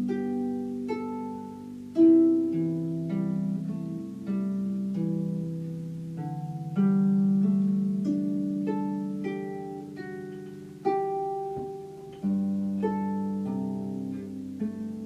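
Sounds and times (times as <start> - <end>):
solo harp music: 0.0 - 15.0.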